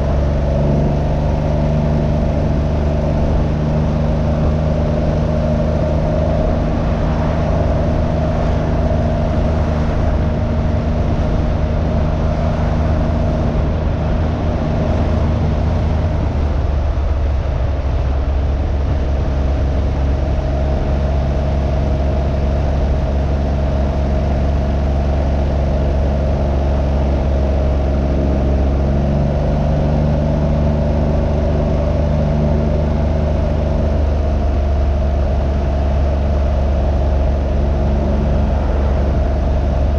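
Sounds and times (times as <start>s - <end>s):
three-cylinder engine running: 0.0s - 39.9s
wind noise: 0.0s - 39.9s.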